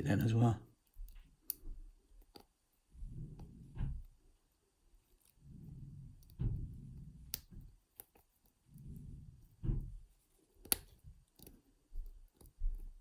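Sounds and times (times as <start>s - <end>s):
soft handling noise: 0.0s - 13.0s.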